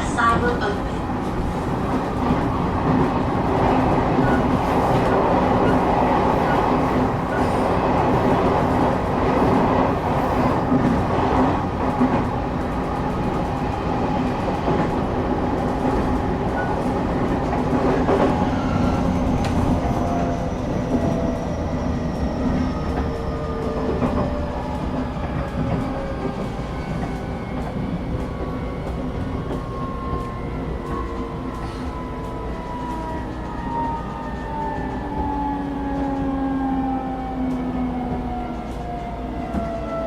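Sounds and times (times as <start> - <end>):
train carriage rumble and rattle: 0.0 - 40.0.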